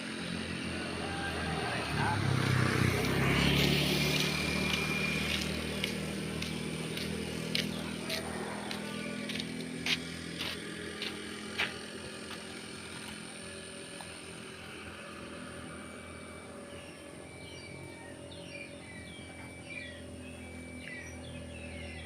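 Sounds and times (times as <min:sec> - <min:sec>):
birds chirping: 0:00.0 - 0:22.0
locomotive engine running: 0:00.0 - 0:22.0.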